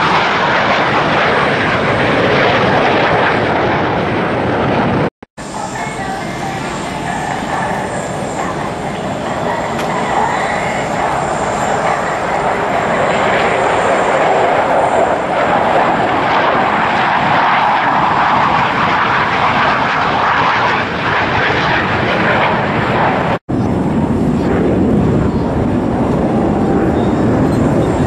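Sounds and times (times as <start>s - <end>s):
jet fighters flying past: 0.0s - 28.0s.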